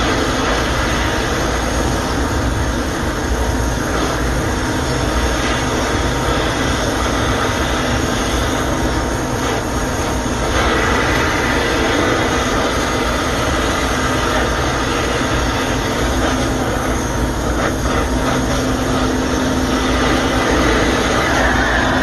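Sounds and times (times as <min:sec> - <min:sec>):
torch flame rushing: 0:00.0 - 0:22.0.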